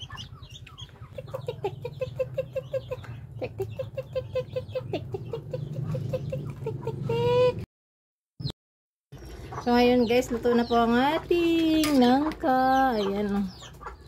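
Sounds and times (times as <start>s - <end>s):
chickens clucking: 0.0s - 7.6s, 9.2s - 14.0s.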